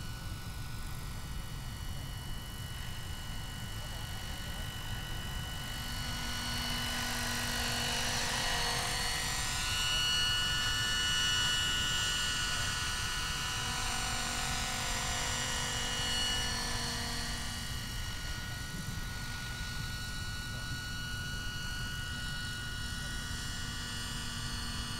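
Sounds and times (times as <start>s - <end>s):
model helicopter whining: 0.0s - 24.9s.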